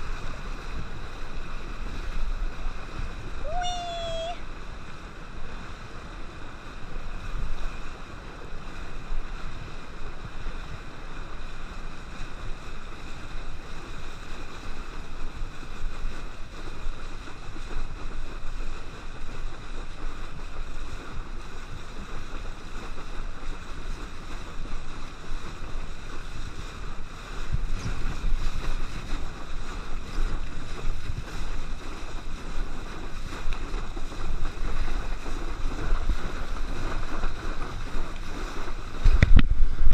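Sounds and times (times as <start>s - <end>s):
boat engine running: 0.0s - 39.9s
rushing water: 0.0s - 39.9s
water churning under board: 0.0s - 39.9s
wind: 0.0s - 39.9s.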